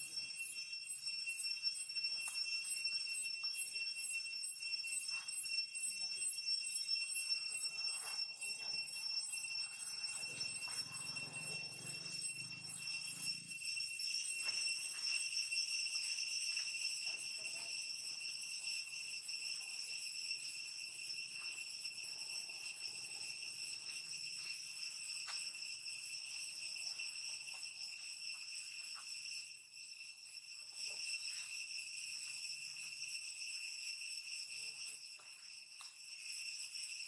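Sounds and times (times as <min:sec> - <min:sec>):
high-pitched pulsing ringing: 0:00.0 - 0:37.0.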